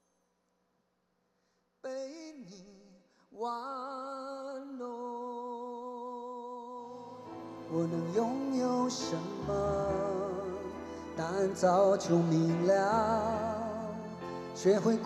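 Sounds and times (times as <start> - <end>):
man singing unaccompanied: 1.8 - 15.0.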